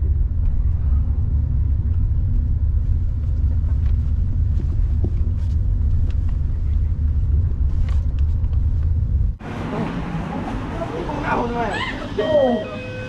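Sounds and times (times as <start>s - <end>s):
car interior rumble: 0.0s - 11.2s.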